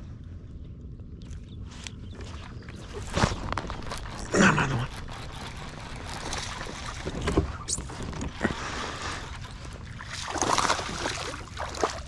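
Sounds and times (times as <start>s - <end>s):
water lapping against hull: 2.0s - 12.0s.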